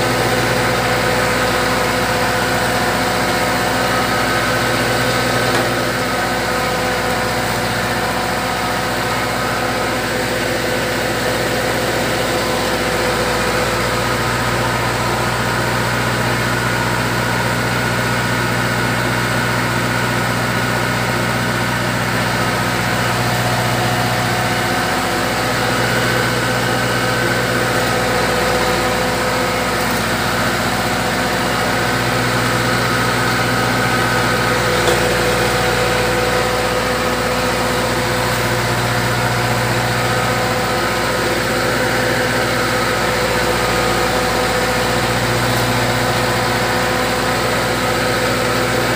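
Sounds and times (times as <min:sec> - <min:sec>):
pellet machine droning: 0:00.0 - 0:48.9.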